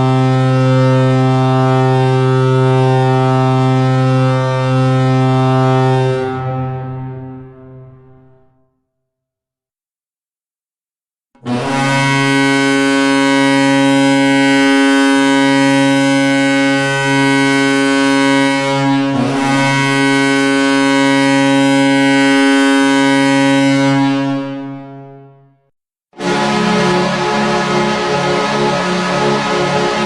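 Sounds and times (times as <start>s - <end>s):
goal horn blast: 0.0s - 8.5s, 11.4s - 25.3s, 26.2s - 30.0s.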